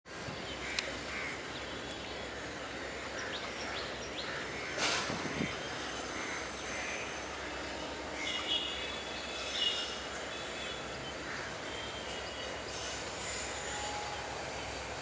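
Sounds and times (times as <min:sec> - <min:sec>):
diesel locomotive running: 0:00.1 - 0:15.0.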